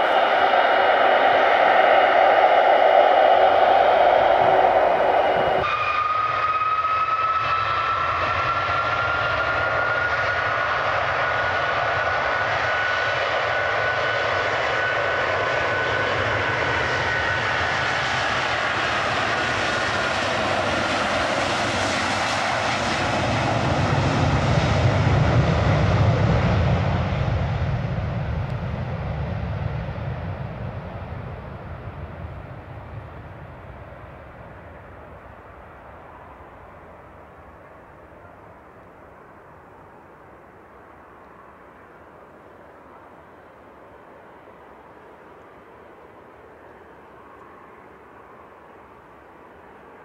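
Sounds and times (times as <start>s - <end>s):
jet engines whining and roaring: 0.0s - 50.0s.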